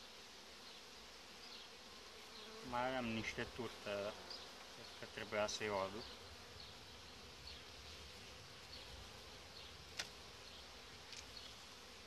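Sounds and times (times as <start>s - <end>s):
honeybee colony buzzing: 0.0s - 12.0s.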